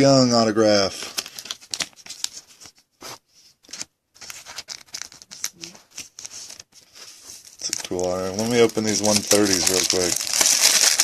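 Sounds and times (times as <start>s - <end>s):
cards and plastic holders handled: 1.0s - 11.0s.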